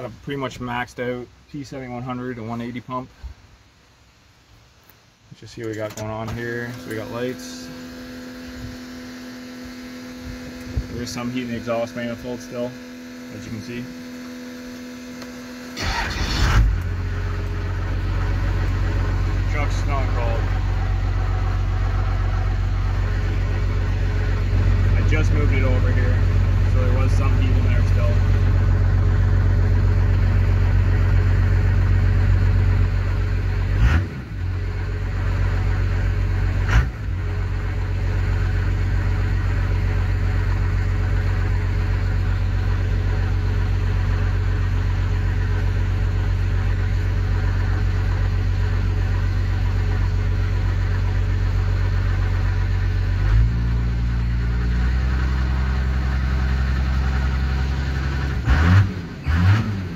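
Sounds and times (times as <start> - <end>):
diesel engine idling: 7.0 - 58.7.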